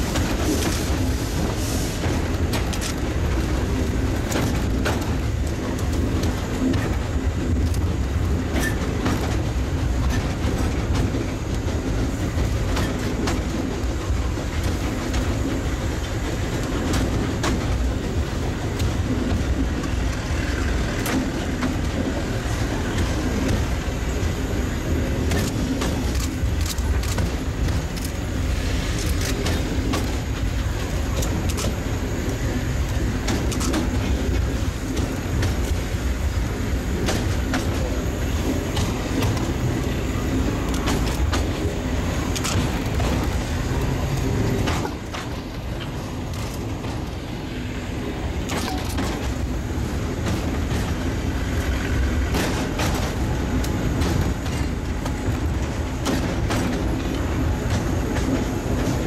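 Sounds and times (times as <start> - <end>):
train running rumble: 0.0 - 59.0
wheels clicking on rails: 0.0 - 59.0.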